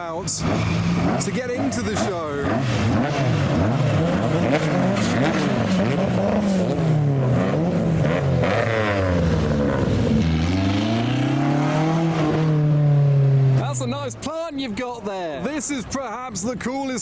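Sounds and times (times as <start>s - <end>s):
car engines accelerating: 0.0s - 16.7s.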